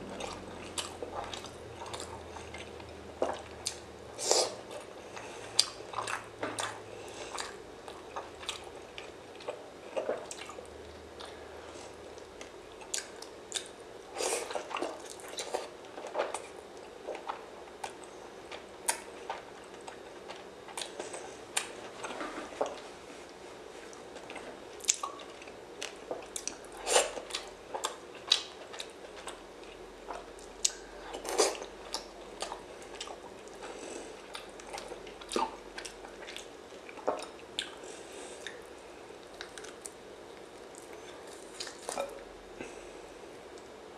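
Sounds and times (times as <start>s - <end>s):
person chewing seafood: 0.0s - 42.9s.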